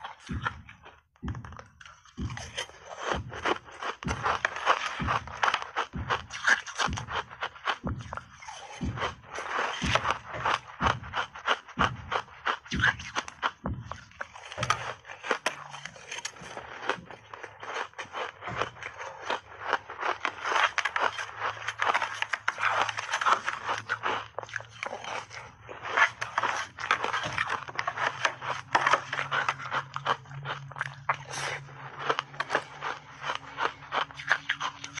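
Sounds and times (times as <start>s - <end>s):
ice chunks crunched and chewed: 0.0s - 35.0s.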